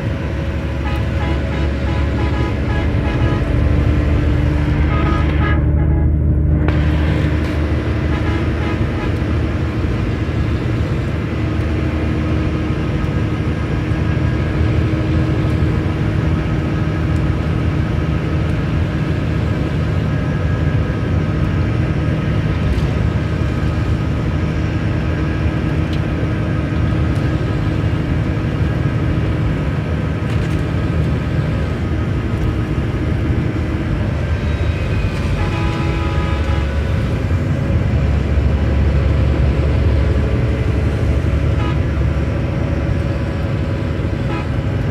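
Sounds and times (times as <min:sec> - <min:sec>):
coach diesel engine running: 0:00.0 - 0:44.9.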